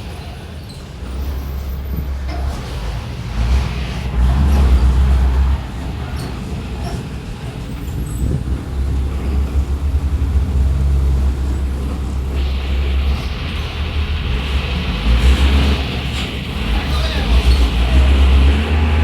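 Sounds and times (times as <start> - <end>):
bus diesel engine rumbling: 0.0 - 19.0
hiss: 0.0 - 19.0.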